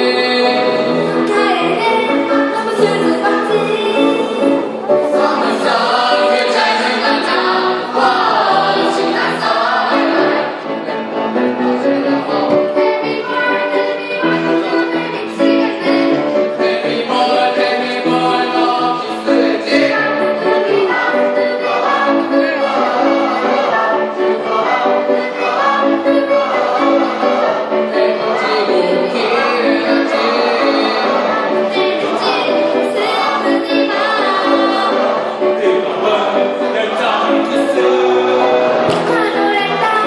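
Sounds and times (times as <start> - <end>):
choir singing: 0.0 - 40.0.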